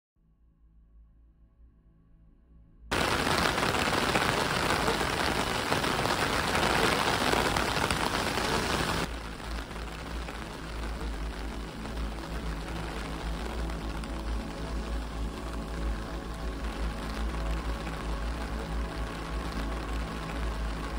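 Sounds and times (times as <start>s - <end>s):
heavy rain pouring: 2.9s - 20.9s
low rumble: 2.9s - 20.9s.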